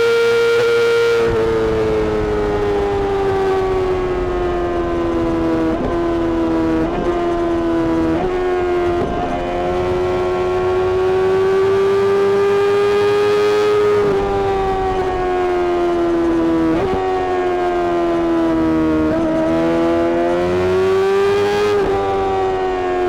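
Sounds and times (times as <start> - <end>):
motorcycle engine screaming at high revs: 0.0 - 23.0.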